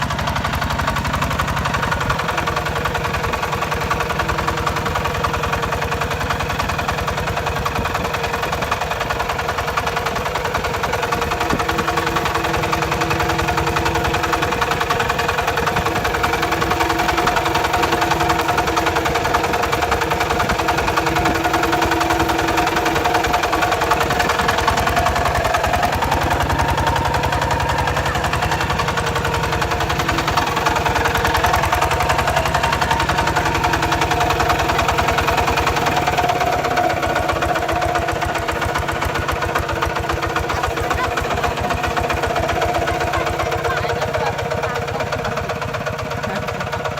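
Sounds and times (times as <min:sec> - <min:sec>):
diesel engine knocking steadily: 0:00.0 - 0:46.9.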